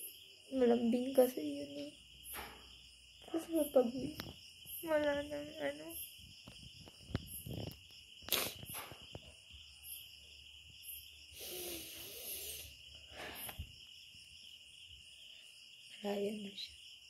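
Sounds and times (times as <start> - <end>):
crickets droning: 0.0 - 17.0.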